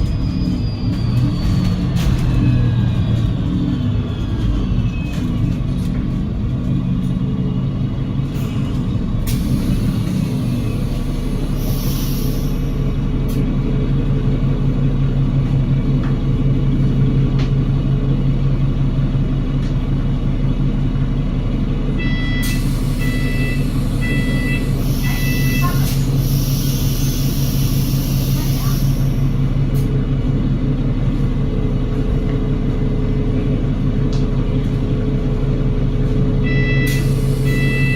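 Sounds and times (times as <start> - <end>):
bus engine droning: 0.0 - 37.9.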